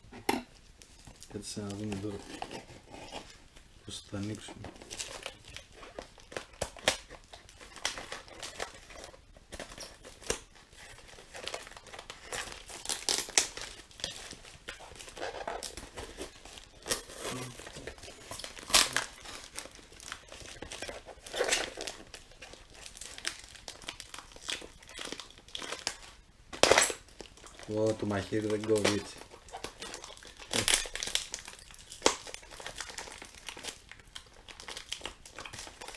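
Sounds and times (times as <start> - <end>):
plastic wrap crinkling: 0.5 - 35.9
packing tape tearing: 4.7 - 35.9.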